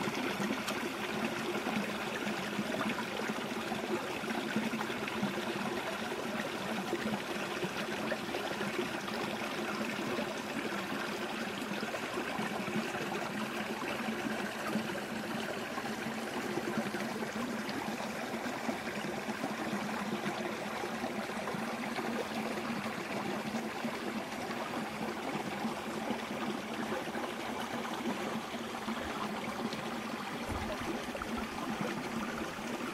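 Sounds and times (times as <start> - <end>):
stream flowing: 0.0 - 32.9.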